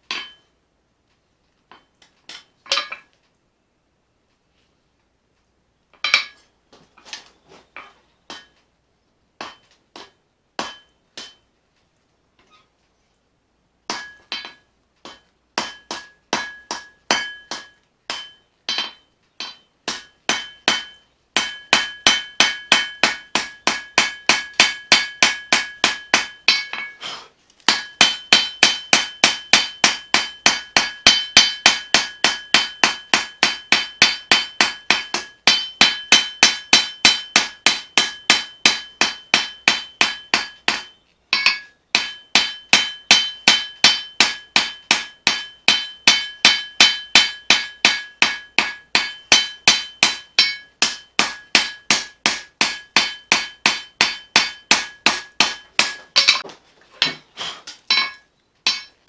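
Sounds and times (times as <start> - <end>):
hammer striking steel on anvil: 0.0 - 0.5, 6.0 - 6.4, 7.8 - 8.6, 9.4 - 11.5, 13.9 - 27.0, 27.6 - 57.3, 57.9 - 59.0.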